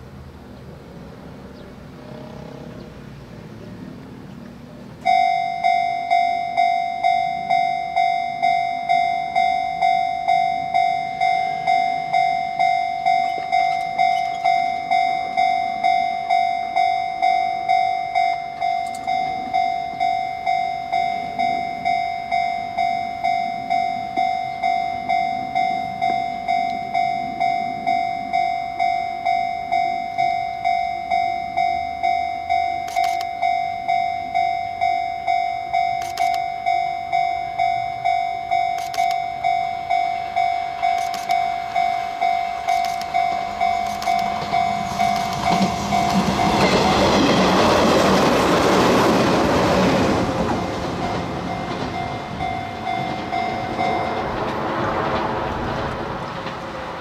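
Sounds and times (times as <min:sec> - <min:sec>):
level crossing bell clanging: 0:05.0 - 0:54.6.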